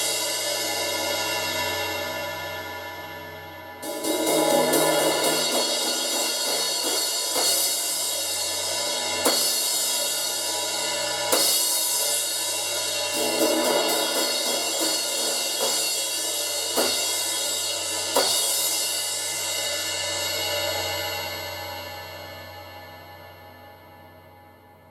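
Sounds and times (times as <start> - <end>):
crash cymbal struck and ringing: 0.0 - 24.2.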